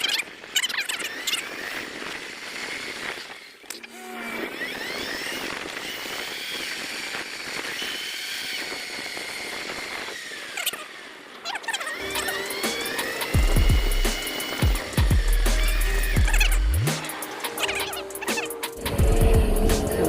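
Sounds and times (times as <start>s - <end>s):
electric motor whining: 0.1s - 20.0s.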